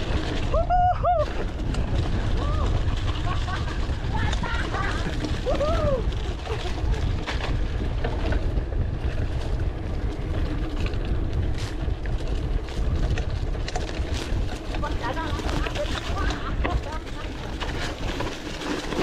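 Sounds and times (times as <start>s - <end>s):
bike knocking over bumps: 0.0s - 19.0s
mountain bike rattling on dirt: 0.0s - 19.0s
wind buffeting microphone: 0.0s - 19.0s.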